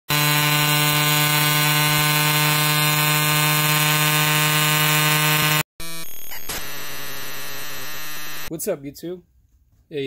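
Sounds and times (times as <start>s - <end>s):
electric motor steady tone: 0.1s - 8.5s.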